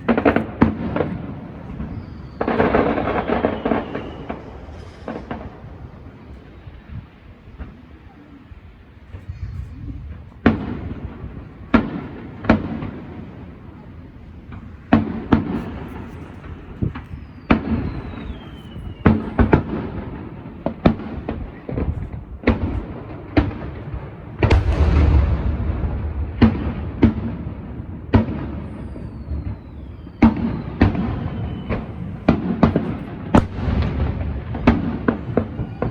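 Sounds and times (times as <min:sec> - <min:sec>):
fireworks booming: 0:00.0 - 0:35.9.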